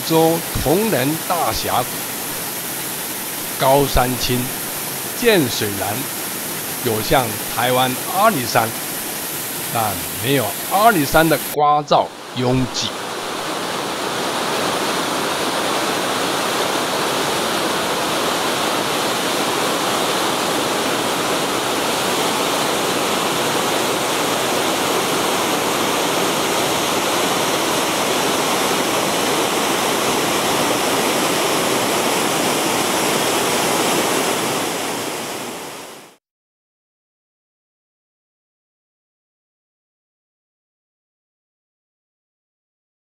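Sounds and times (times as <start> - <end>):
waterfall pouring into a pool: 0.0 - 11.6, 12.8 - 36.1.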